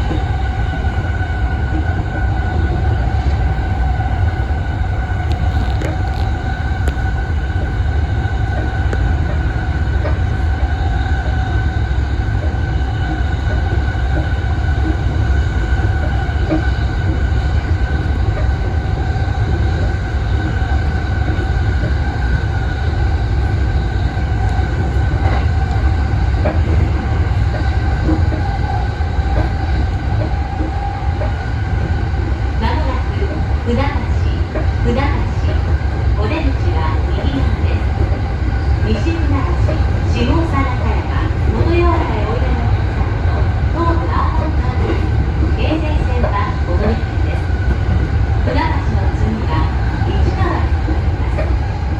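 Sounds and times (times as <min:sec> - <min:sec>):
steady train whine: 0:00.0 - 0:51.9
train wheels rumbling on rails: 0:00.0 - 0:51.9.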